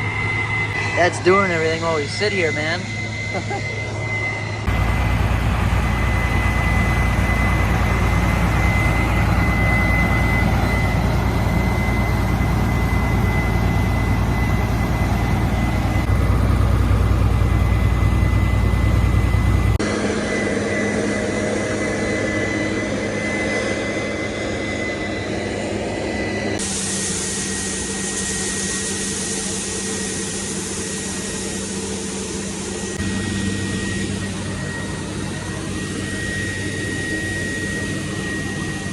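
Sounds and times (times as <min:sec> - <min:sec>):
heavy machinery engine: 0:00.0 - 0:38.9
high whine: 0:00.0 - 0:38.9.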